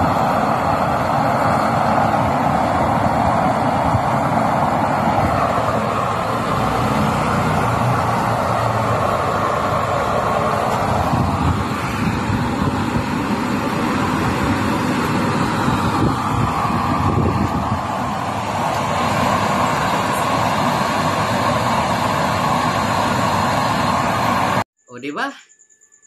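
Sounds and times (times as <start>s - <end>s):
stove burning with blower rushing: 0.0s - 24.6s.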